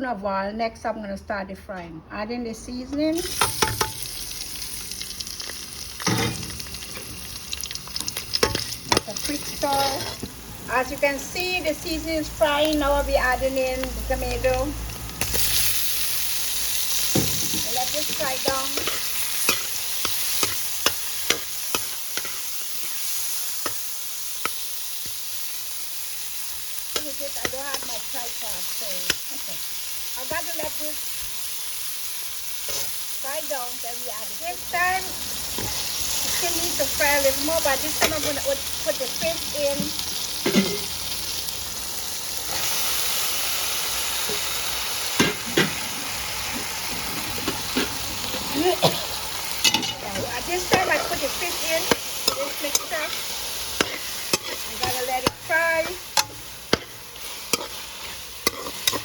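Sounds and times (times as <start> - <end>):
food sizzling in oil: 3.1 - 59.0.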